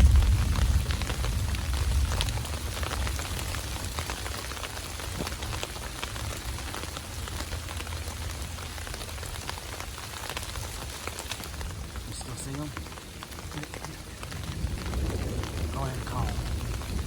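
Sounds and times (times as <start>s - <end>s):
low rumble of thunder: 0.0s - 17.0s
raindrops ticking: 0.0s - 17.0s
steady rain falling: 0.0s - 17.0s.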